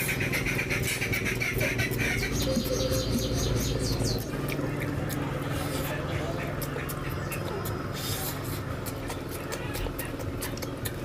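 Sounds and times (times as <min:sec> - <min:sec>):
birds chirping: 0:00.0 - 0:11.0
chewing and wet mouth sounds: 0:00.0 - 0:11.0
steady low hum: 0:00.0 - 0:11.0.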